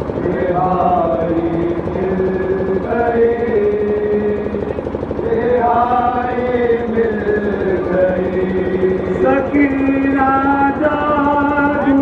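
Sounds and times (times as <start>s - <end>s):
men chanting a lament: 0.2s - 12.0s.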